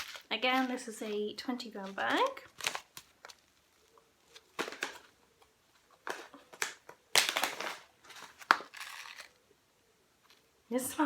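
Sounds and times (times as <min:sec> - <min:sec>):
packaging crinkling: 0:00.0 - 0:09.4.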